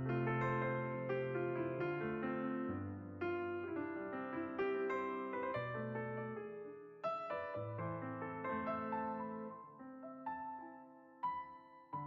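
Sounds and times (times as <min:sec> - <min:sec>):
slow gentle piano music: 0:00.0 - 0:12.0.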